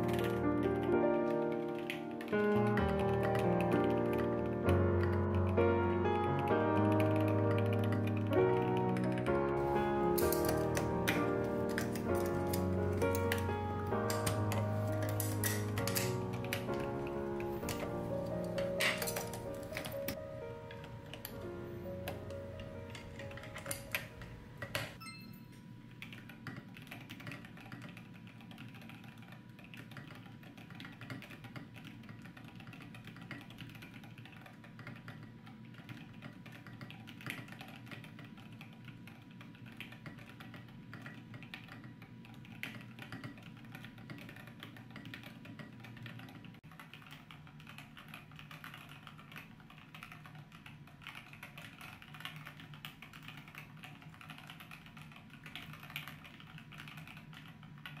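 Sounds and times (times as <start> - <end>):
fast mechanical keyboard typing: 0.0 - 25.0, 25.9 - 58.0.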